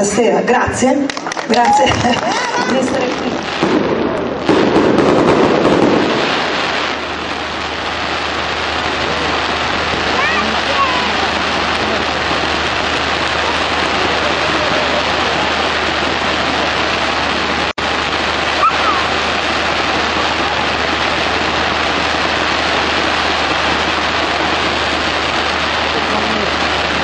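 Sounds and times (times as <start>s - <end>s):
firework fountain hissing: 0.0s - 27.0s.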